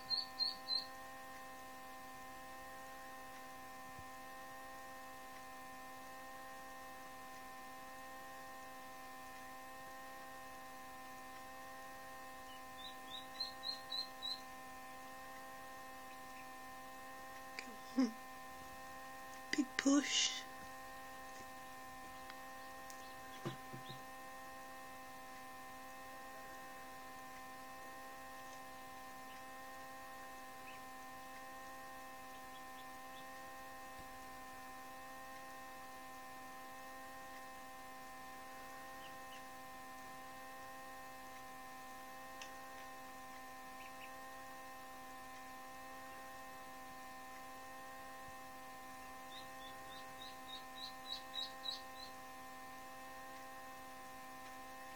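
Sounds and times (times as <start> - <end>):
incubator electrical hum: 0.0 - 54.9.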